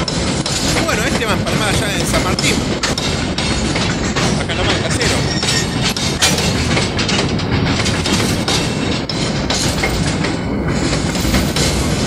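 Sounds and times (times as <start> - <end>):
irregular knocks of train wagons: 0.0 - 12.0
train wheels clattering on rails: 0.0 - 12.0.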